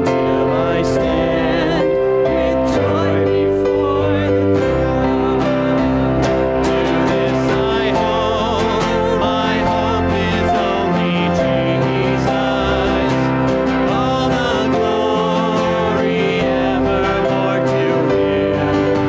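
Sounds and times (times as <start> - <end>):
electric keyboard chords: 0.0 - 19.0
group singing a hymn: 0.0 - 19.0.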